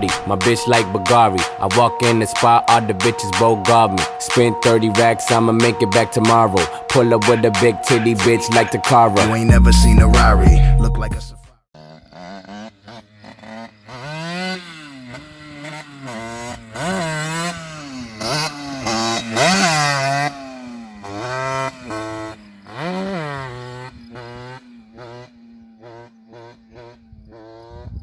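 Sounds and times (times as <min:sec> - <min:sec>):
moped engine revving: 0:00.0 - 0:11.1, 0:11.8 - 0:28.0.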